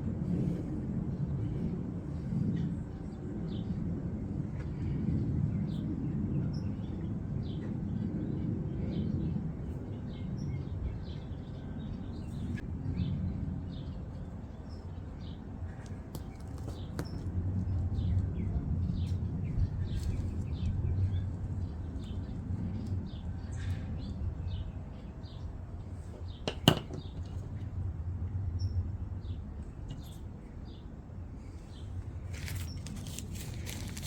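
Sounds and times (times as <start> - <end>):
low background rumble: 0.0 - 34.0.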